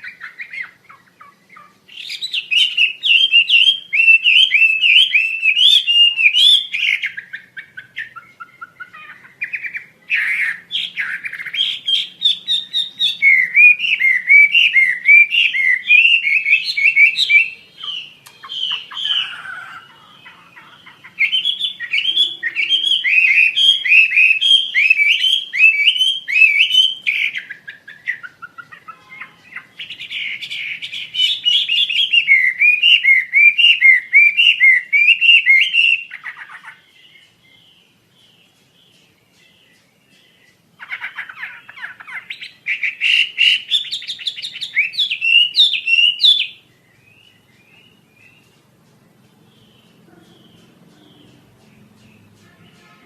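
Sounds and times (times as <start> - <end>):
bird whistling song: 0.0 - 53.0.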